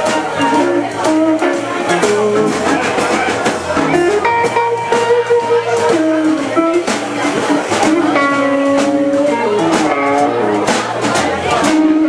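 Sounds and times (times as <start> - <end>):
drums: 0.0 - 12.0
electric guitar: 0.0 - 12.0.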